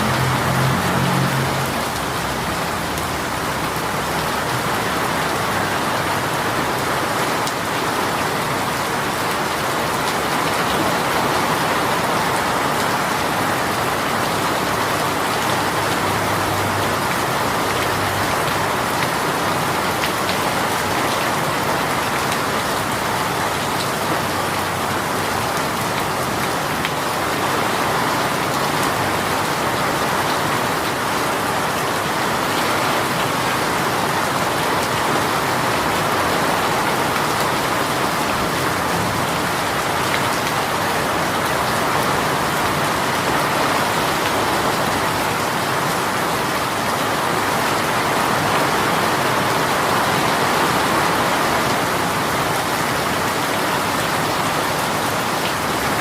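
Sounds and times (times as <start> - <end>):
rain pouring: 0.0 - 56.0.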